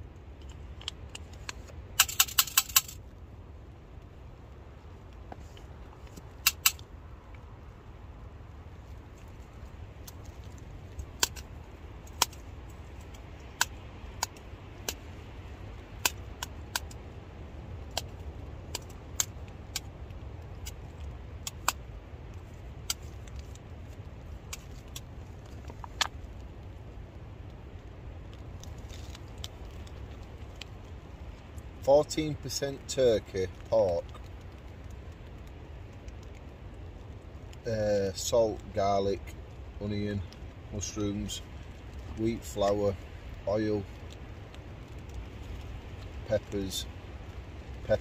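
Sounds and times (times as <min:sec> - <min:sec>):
wind rumbling on tent: 0:00.0 - 0:48.0.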